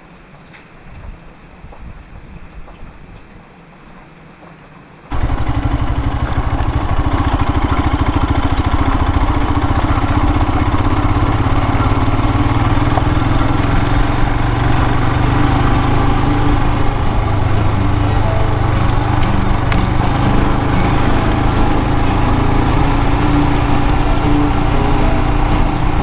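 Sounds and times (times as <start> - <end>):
motorcycle engine running: 5.1 - 26.0.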